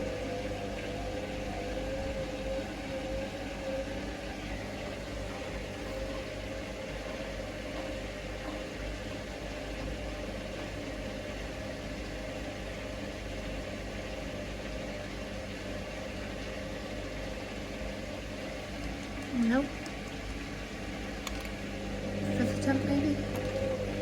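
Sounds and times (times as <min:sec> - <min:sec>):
washing machine motor humming: 0:00.0 - 0:24.0.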